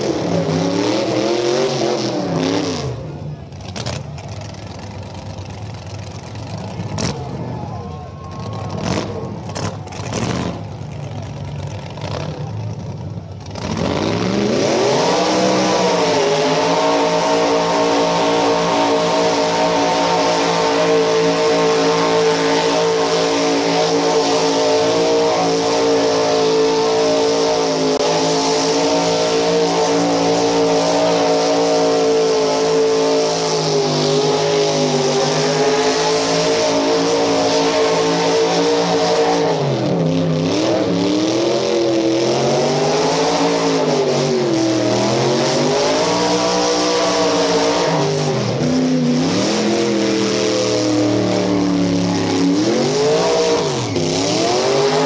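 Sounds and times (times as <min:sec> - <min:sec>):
engine at high revs: 0:00.0 - 0:07.4, 0:08.4 - 0:55.0
tires spinning: 0:00.0 - 0:55.0.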